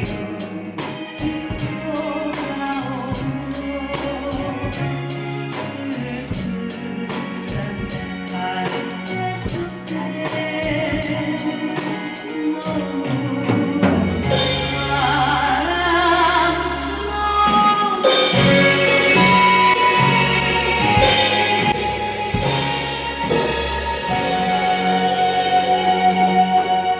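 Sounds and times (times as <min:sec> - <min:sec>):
pop song with female singer: 0:00.0 - 0:26.9.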